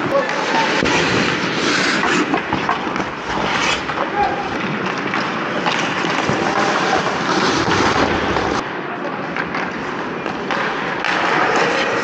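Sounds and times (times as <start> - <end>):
skates scraping ice: 0.0 - 12.0
sticks and puck clacking: 0.0 - 12.0.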